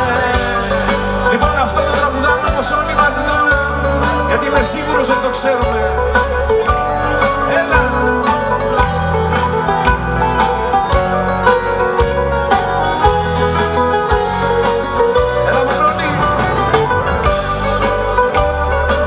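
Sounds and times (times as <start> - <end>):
live band through loudspeakers: 0.0 - 19.0
plucked string lead: 0.0 - 19.0.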